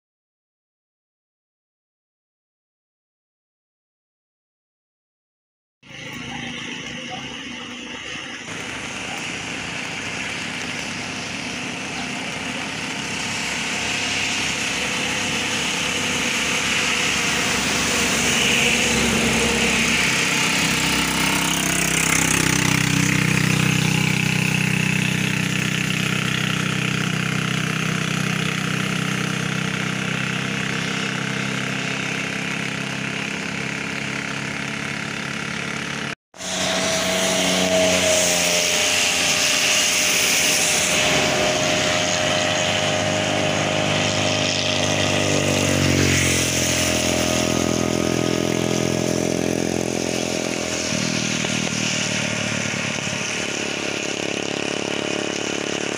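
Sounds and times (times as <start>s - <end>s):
engine running steadily: 5.8s - 55.9s
steady rushing hiss: 5.9s - 32.8s, 34.8s - 55.9s.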